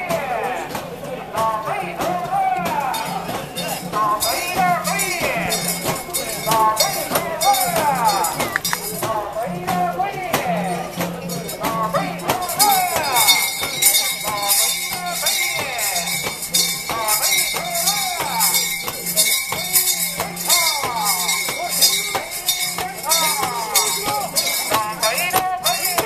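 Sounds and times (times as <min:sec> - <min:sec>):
crowd shouting and chanting: 0:00.0 - 0:26.0
metal bells jingling: 0:02.6 - 0:26.0.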